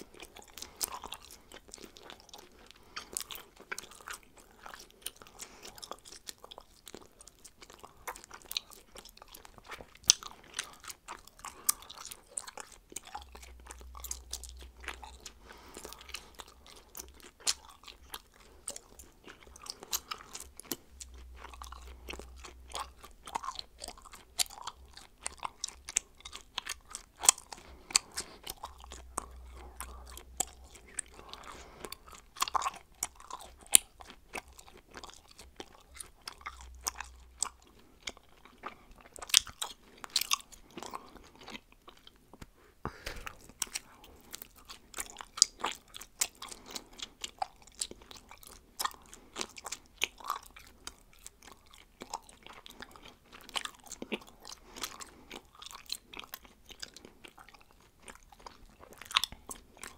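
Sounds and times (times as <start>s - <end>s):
person chewing bubblegum: 0.0s - 59.9s.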